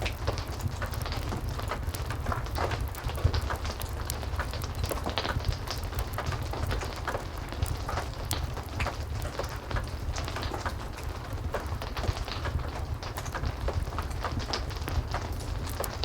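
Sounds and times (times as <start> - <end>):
heavy rain: 0.0 - 16.0
wood fire crackling: 0.0 - 16.0.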